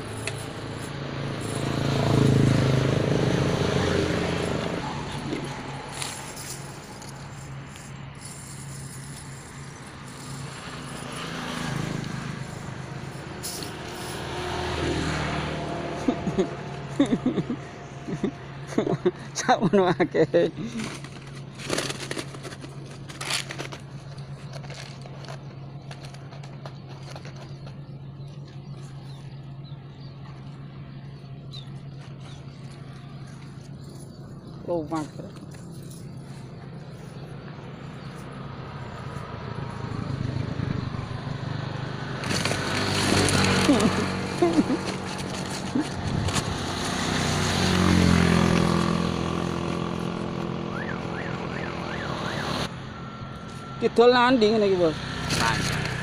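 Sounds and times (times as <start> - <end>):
vehicle engine passing by: 0.0 - 21.2, 27.6 - 56.0.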